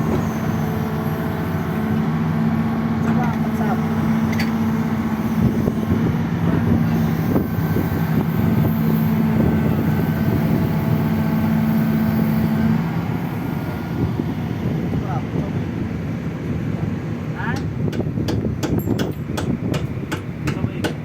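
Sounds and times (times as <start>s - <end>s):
diesel engine rumble: 0.0s - 21.0s.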